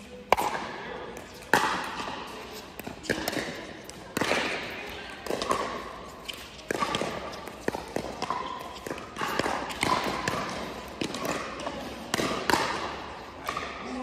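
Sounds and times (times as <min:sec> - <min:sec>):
ball bouncing: 0:00.3 - 0:14.0.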